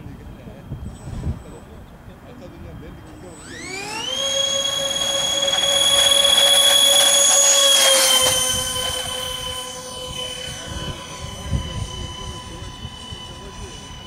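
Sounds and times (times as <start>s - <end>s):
model jet engines whining: 0.0s - 14.0s.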